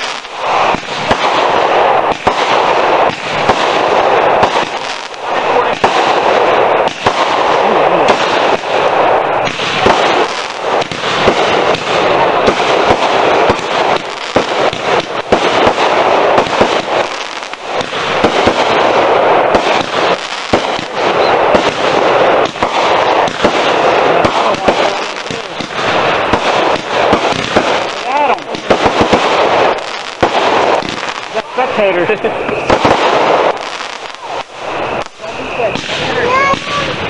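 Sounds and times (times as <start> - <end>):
fireworks bangs and pops: 0.0 - 37.0
fireworks crackling: 0.0 - 37.0.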